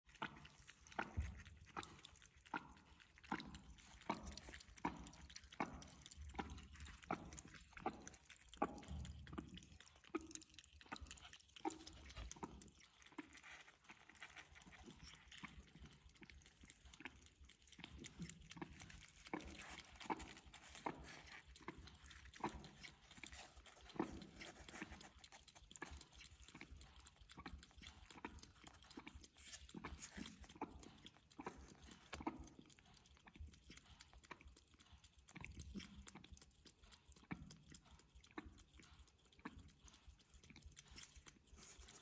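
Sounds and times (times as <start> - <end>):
cat lapping milk: 0.0 - 42.0.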